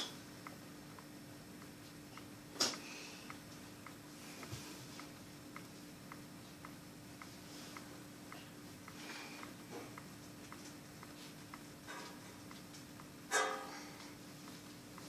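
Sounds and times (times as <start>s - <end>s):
faint regular ticking: 0.0s - 15.0s
steady low hum: 0.0s - 15.0s.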